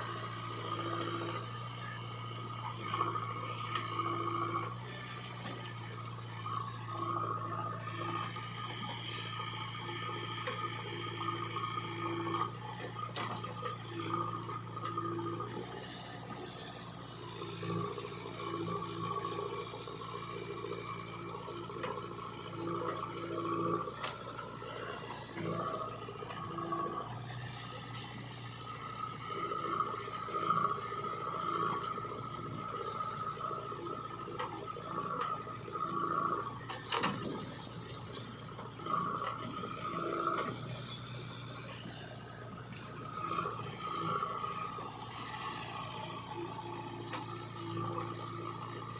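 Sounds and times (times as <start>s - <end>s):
low engine hum: 0.0s - 48.9s
small motor whining: 0.0s - 48.9s.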